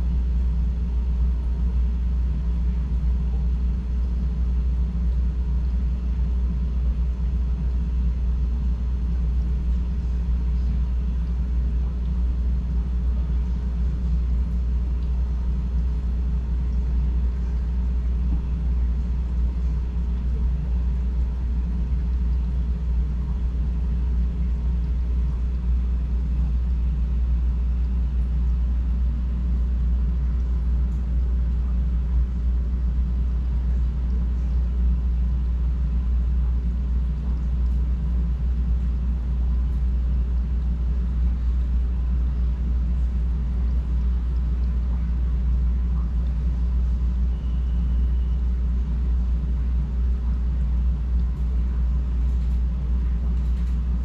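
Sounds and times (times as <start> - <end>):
aquarium filter and pump hum: 0.0 - 54.0.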